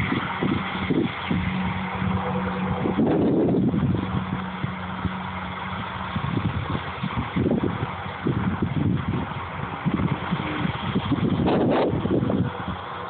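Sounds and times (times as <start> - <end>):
tractor engine droning: 0.0 - 13.0
wind buffeting microphone: 0.0 - 13.0.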